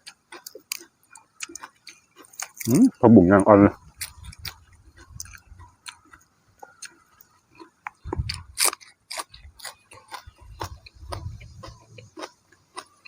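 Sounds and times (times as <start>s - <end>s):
person chewing crunchy food: 0.0s - 3.0s, 3.7s - 13.0s.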